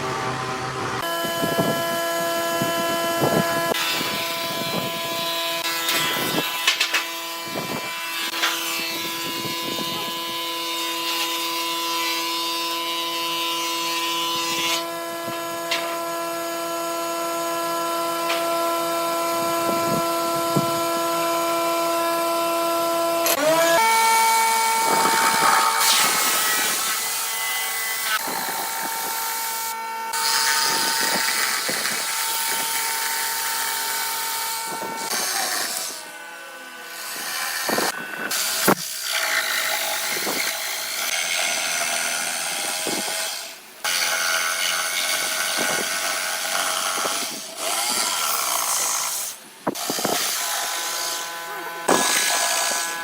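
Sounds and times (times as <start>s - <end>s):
cutting wood: 0.0s - 53.0s
power tool motor whining: 0.0s - 53.0s.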